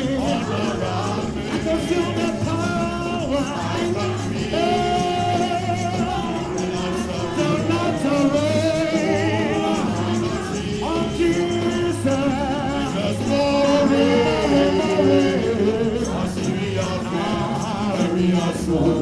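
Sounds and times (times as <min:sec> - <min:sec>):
band with steady beat: 0:00.0 - 0:19.0
group singing gospel: 0:00.0 - 0:19.0.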